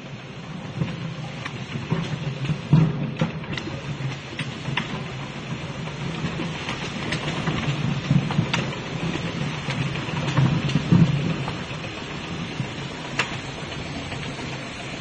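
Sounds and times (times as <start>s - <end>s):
low mechanical hum of conveyor: 0.0s - 15.0s
sharp clicks and knocks: 0.7s - 15.0s.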